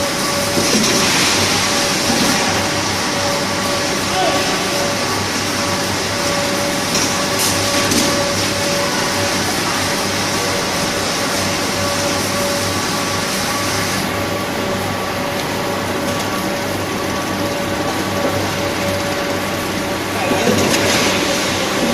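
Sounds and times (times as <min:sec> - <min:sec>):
packing machinery running: 0:00.0 - 0:21.9.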